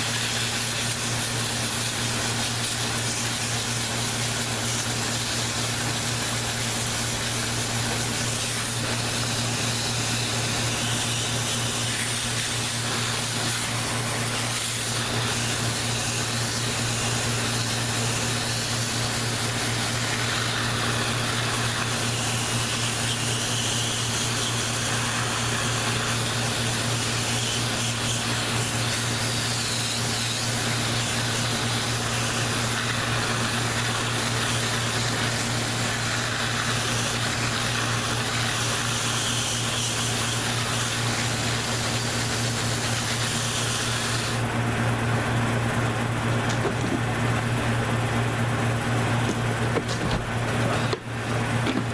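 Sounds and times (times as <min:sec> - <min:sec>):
water spraying hiss: 0:00.0 - 0:44.4
pump motor hum: 0:00.0 - 0:51.9.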